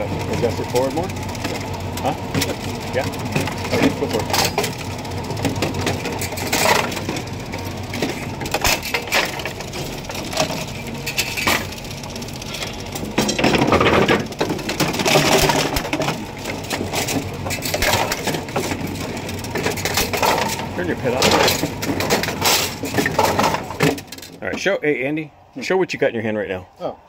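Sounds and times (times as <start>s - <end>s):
bowling pins and metal parts rattling: 0.0s - 25.0s
bowling pinsetter machinery running: 0.0s - 27.0s.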